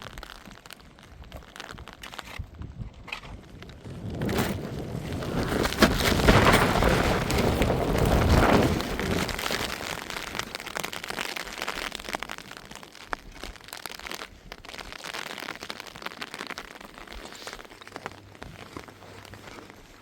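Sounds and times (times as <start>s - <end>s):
rain patter: 0.0s - 20.0s.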